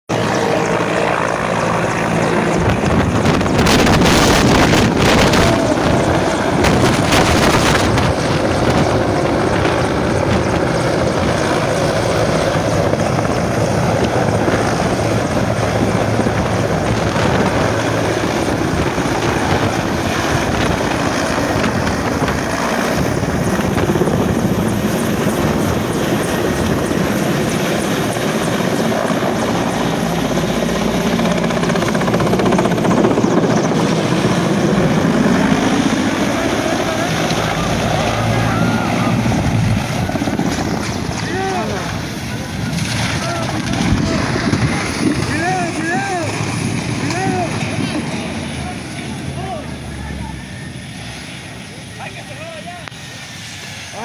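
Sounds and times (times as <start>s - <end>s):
helicopter rotors and turbines: 0.1s - 54.0s.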